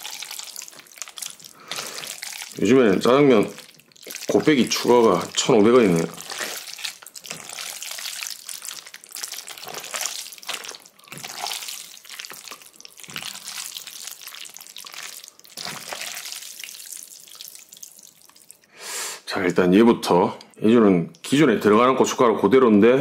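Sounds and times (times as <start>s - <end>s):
noodles squelching in sauce: 0.0s - 18.6s.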